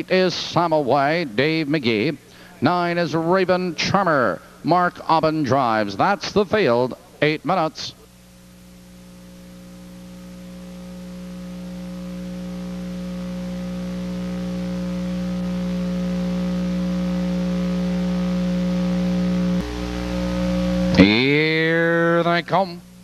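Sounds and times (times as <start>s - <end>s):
electrical hum: 0.0s - 23.0s
faint tape hiss: 0.0s - 23.0s.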